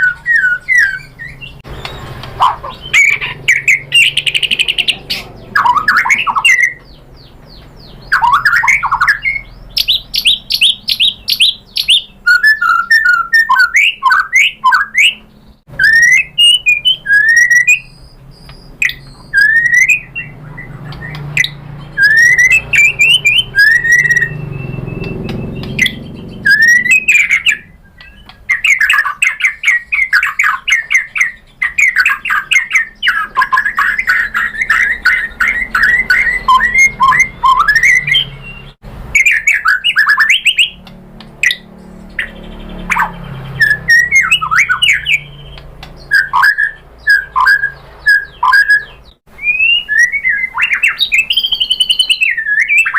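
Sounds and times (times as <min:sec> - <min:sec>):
songbird singing whistles and trills: 0:00.0 - 0:52.9.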